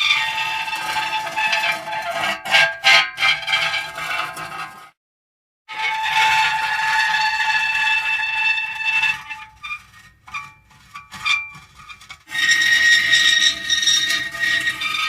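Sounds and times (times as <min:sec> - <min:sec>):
metal creaking and squealing: 0:00.0 - 0:04.9, 0:05.7 - 0:15.0.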